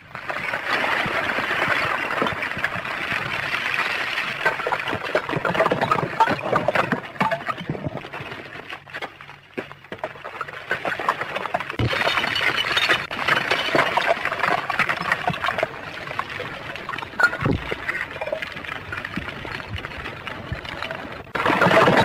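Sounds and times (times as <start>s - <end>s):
rock blocks tumbling and grinding: 0.0s - 22.0s.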